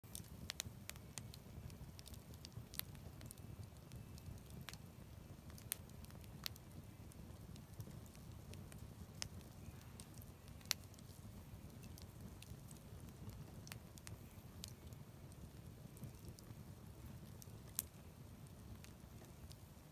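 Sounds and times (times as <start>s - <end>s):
wood fire crackling and popping: 0.0s - 19.9s.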